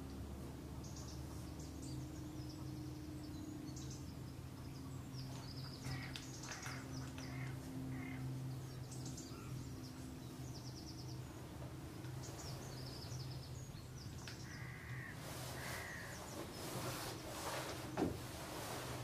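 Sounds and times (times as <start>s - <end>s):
small birds chirping: 0.0s - 17.9s
faint low hum: 0.0s - 19.0s
loud bird calls: 0.8s - 17.8s.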